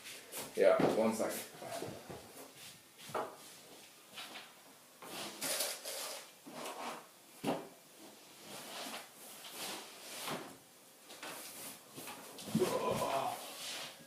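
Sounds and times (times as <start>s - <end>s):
rustling and handling noises: 0.0s - 14.0s.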